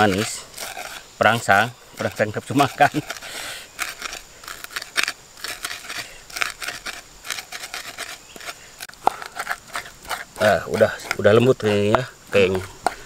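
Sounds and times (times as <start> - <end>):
pestle crushing in wooden mortar: 0.0 - 13.0.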